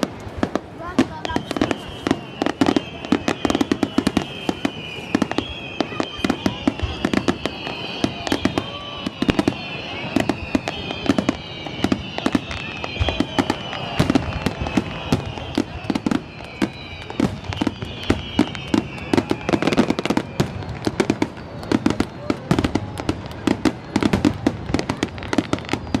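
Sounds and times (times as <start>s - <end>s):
falling firework whistles: 0.0s - 26.0s
fireworks bangs and pops: 0.0s - 26.0s.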